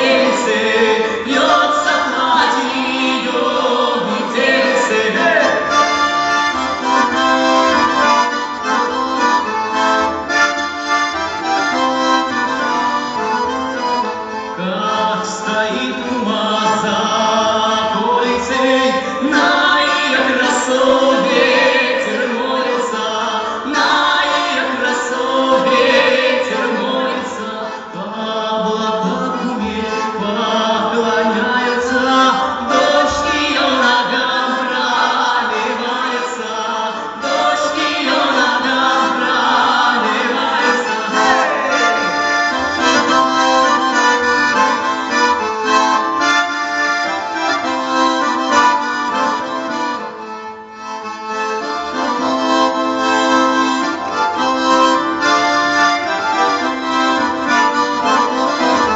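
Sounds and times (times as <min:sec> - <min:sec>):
accordion melody: 0:00.0 - 0:58.9.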